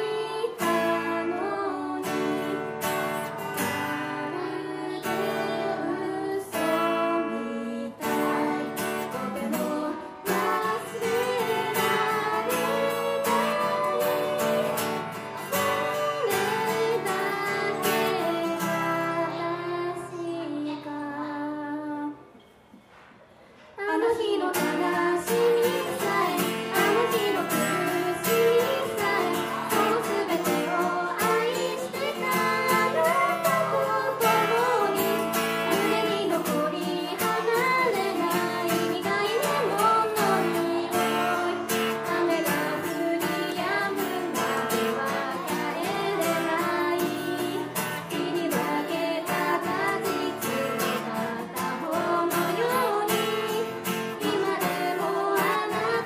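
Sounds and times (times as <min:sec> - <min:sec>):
woman singing: 0:00.0 - 0:22.3, 0:23.8 - 0:56.0
acoustic guitar: 0:00.0 - 0:56.0.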